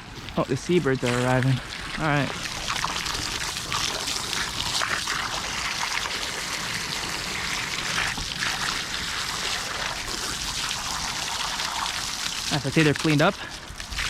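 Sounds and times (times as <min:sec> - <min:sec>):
water pouring and splashing: 0:00.0 - 0:14.0.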